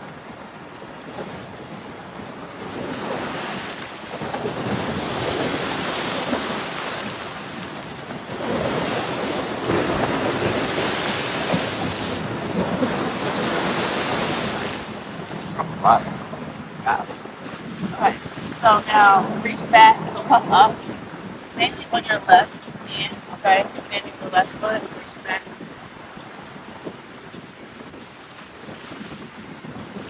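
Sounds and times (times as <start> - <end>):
wind gusting across microphone: 0.0 - 30.0.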